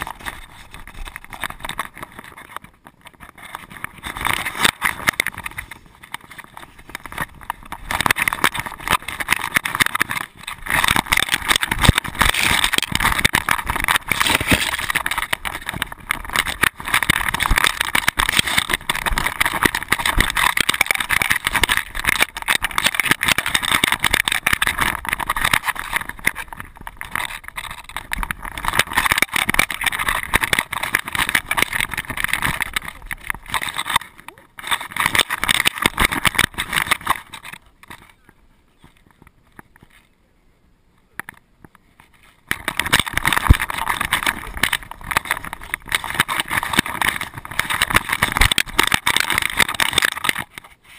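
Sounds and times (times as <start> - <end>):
rapid scrapes and clicks: 0.0 - 40.2, 41.0 - 50.9.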